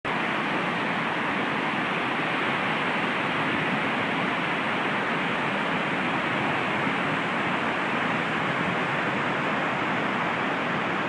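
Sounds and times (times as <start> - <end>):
waterfall rushing: 0.1 - 11.0.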